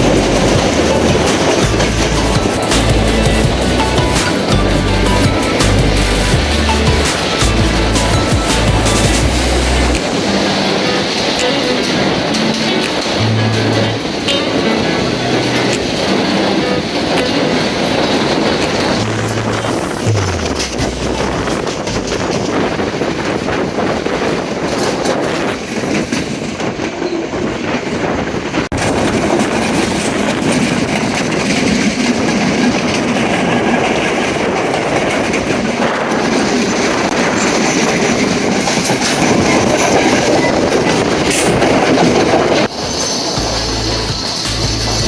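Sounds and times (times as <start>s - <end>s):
train rumbling on rails: 0.0s - 45.0s
wheels clattering over rail joints: 0.0s - 45.0s.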